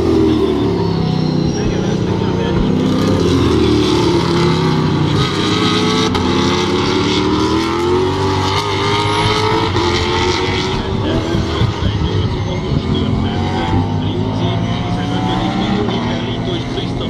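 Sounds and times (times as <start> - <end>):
racing car engines accelerating: 0.0 - 17.0.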